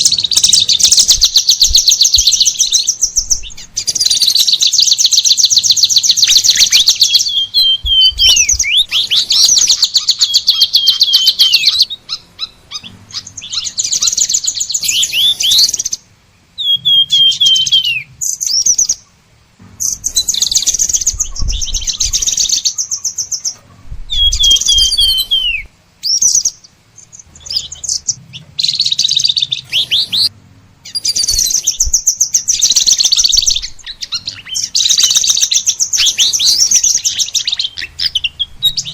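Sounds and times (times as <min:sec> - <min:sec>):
bird whistled notes: 0:00.0 - 0:16.0, 0:16.6 - 0:19.0, 0:19.8 - 0:38.9
songbirds trilling: 0:00.0 - 0:38.9.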